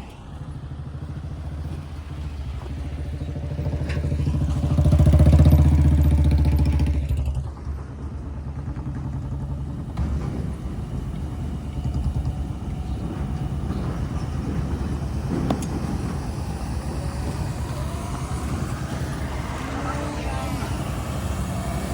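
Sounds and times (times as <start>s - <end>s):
heavy diesel engine rumbling: 0.0s - 21.9s.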